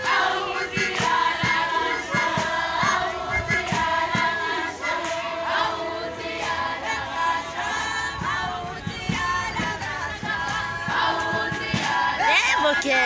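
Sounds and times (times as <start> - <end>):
group singing in harmony: 0.0 - 13.0.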